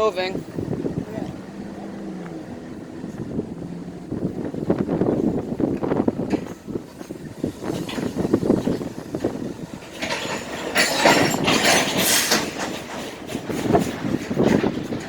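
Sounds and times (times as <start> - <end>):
train wheels rumbling and clacking: 0.0 - 15.0
train hissing: 0.6 - 14.2.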